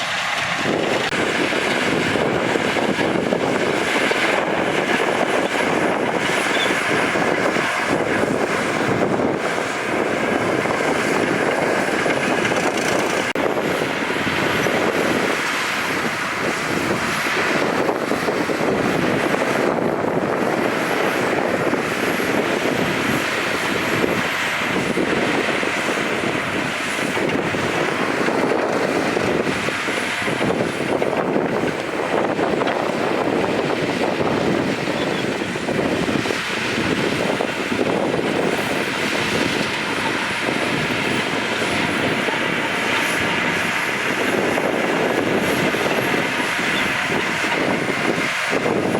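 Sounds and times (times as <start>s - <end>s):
heavy diesel machinery droning: 0.0s - 48.9s.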